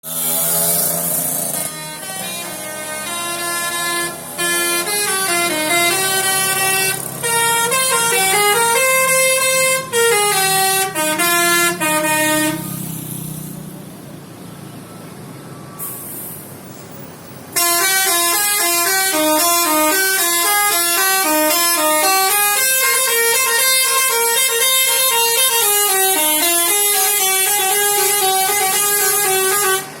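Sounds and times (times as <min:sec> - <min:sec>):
bus multi-tone horn tune: 0:00.1 - 0:13.0, 0:16.8 - 0:30.0.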